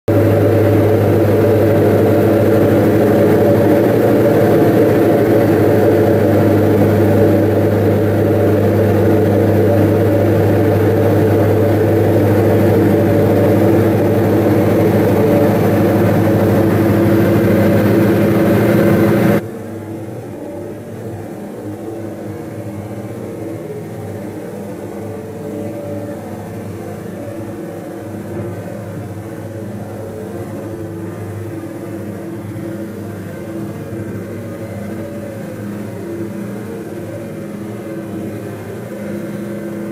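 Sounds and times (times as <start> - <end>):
aircraft engines droning in cabin: 0.1 - 39.9.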